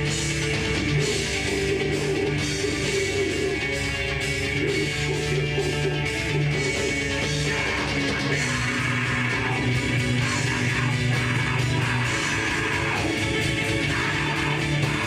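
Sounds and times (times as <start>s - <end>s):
heavy rock band playing: 0.0s - 15.0s.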